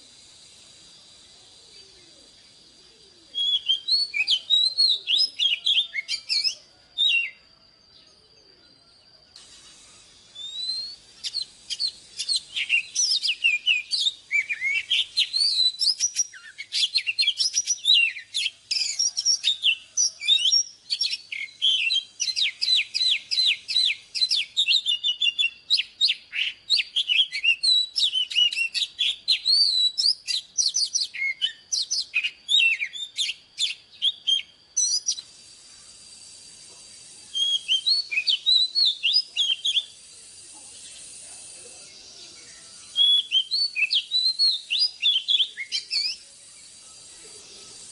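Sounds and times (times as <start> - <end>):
bird singing whistles and chirps: 0.0 - 47.9.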